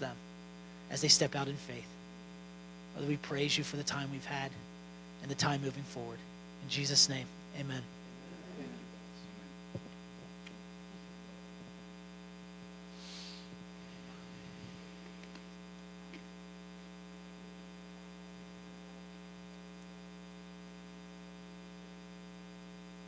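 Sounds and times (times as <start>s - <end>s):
soft hiss: 0.0s - 22.1s
electrical mains hum: 0.0s - 23.0s.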